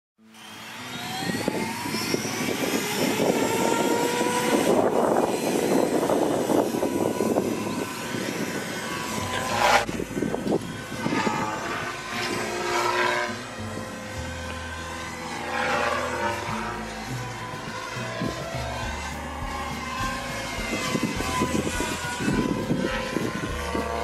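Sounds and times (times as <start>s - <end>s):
model helicopter motor whine: 0.2s - 24.0s
rotor blades rushing: 0.3s - 24.0s.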